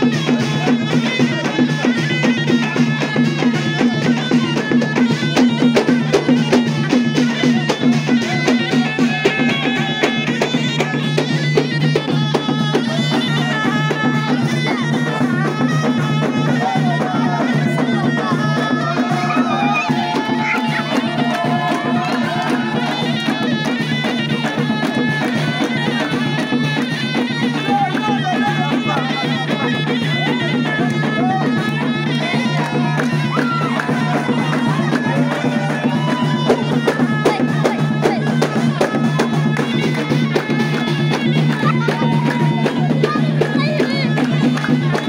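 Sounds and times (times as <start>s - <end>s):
frame drum beating: 0.0s - 45.0s
live folk music: 0.0s - 45.0s.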